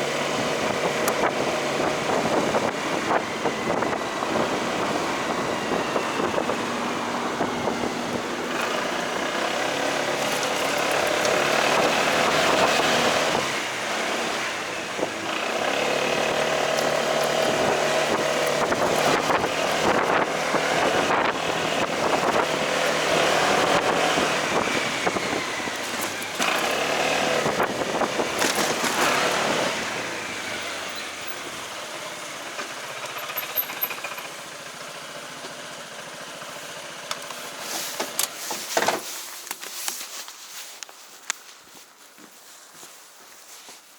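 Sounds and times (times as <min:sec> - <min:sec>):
motorcycle engine revving: 0:00.0 - 0:38.3
road noise: 0:00.0 - 0:43.9.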